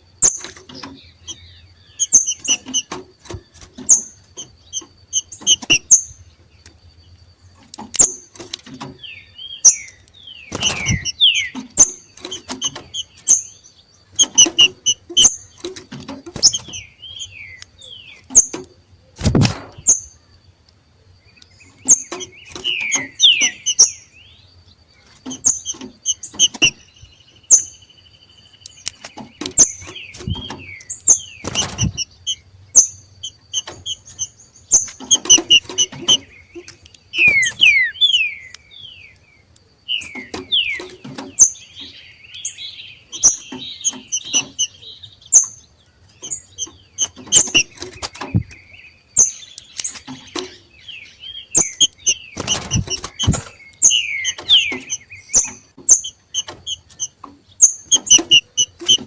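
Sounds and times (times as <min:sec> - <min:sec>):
birds chirping excitedly: 0:00.0 - 0:59.0.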